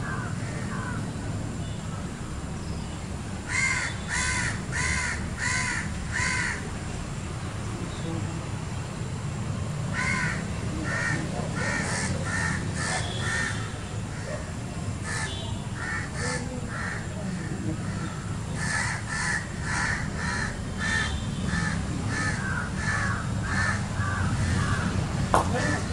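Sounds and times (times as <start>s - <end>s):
harsh bird calls: 0.0s - 6.8s, 9.9s - 25.9s.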